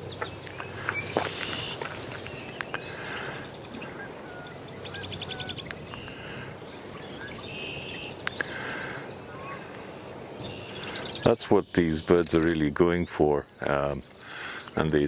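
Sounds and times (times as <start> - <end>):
birds singing and calling: 0.0 - 15.0
steady background hiss: 0.0 - 15.0.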